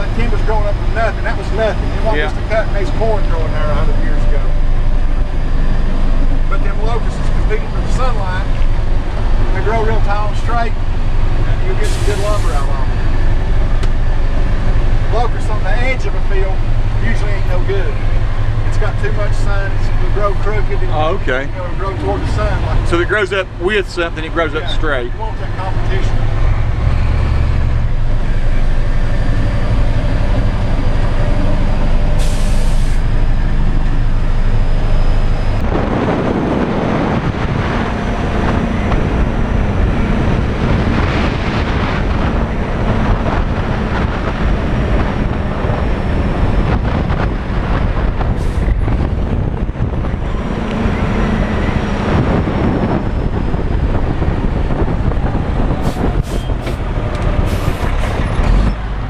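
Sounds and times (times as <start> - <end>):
road noise: 0.0 - 59.0
truck diesel engine running: 0.0 - 59.0.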